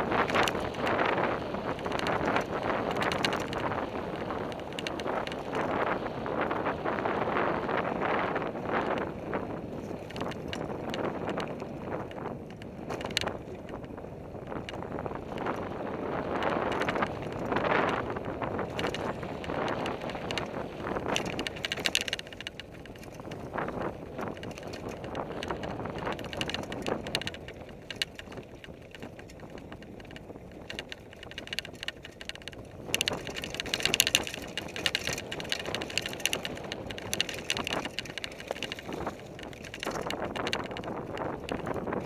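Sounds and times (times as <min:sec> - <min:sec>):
bike rattling and clicking: 0:00.0 - 0:42.0
tyres crunching on dirt trail: 0:00.0 - 0:42.0.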